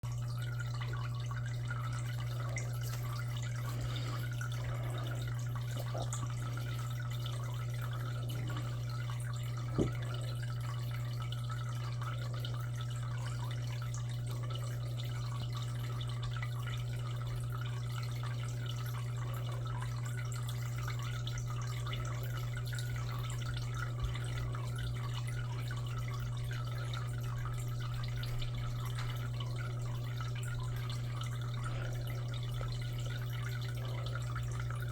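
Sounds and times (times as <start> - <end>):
aquarium pump hum: 0.0 - 34.9
water trickling and dripping: 0.0 - 34.9.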